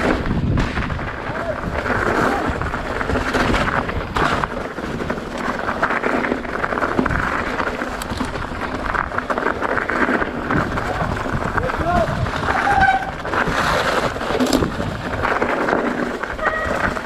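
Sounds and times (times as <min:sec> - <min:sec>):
bike rattling and knocking: 0:00.0 - 0:17.0
bike tyres on muddy trail: 0:00.0 - 0:17.0
wind buffeting microphone: 0:00.0 - 0:17.0.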